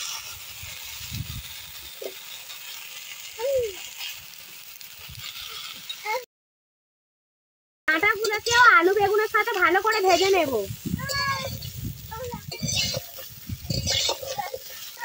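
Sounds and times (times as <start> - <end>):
oil sizzling: 0.0 - 6.2, 7.9 - 15.0.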